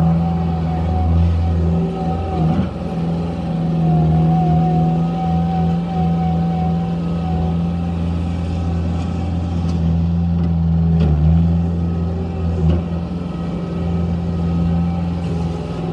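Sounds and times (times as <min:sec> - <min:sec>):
loader engine running: 0:00.0 - 0:15.9.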